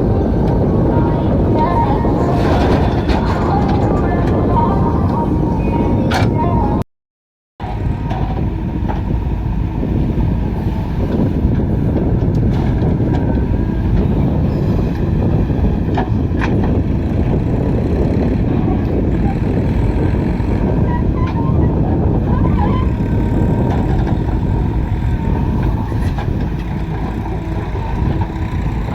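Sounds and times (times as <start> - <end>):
heavy diesel machinery rumbling: 0.0 - 6.8, 7.6 - 28.9.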